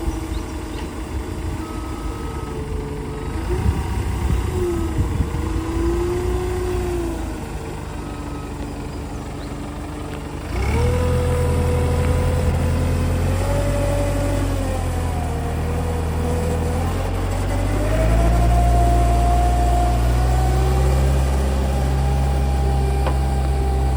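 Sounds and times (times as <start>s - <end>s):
diesel engine revving: 0.0s - 23.9s
machine whine shifting pitch: 1.4s - 23.9s.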